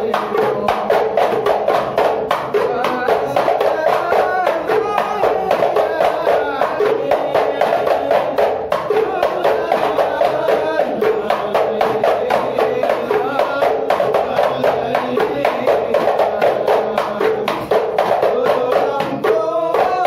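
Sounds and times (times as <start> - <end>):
frame drums beating fast: 0.0 - 20.0
group chanting: 0.0 - 20.0.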